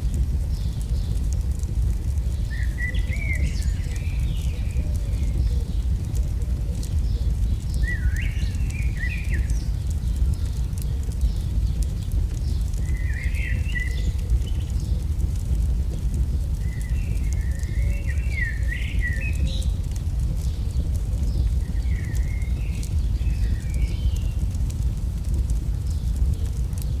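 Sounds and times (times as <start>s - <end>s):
birds chirping: 0.0s - 27.0s
fire crackling: 0.0s - 27.0s
low rumble of fire: 0.0s - 27.0s.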